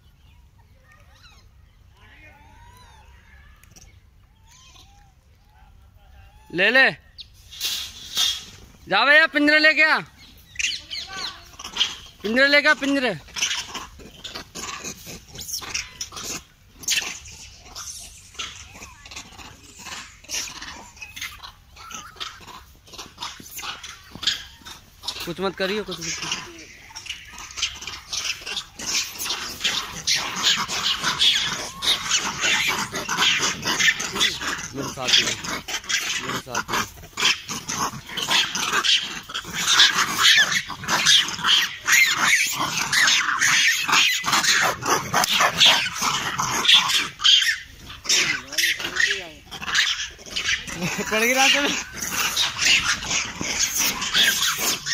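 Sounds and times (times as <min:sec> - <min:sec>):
macaques calling: 0:00.1 - 0:54.9
monkeys screeching: 0:00.3 - 0:05.2, 0:06.0 - 0:54.9.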